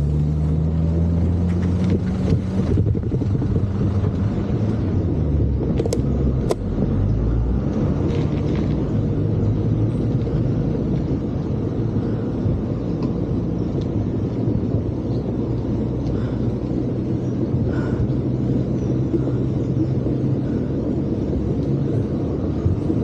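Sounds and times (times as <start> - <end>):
wind and ride noise rumble: 0.0 - 23.0.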